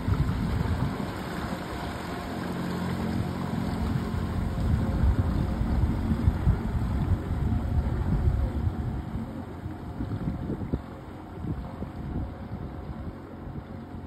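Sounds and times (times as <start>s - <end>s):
outboard motor running: 0.0s - 14.0s
wind rumbling on microphone: 0.0s - 14.0s.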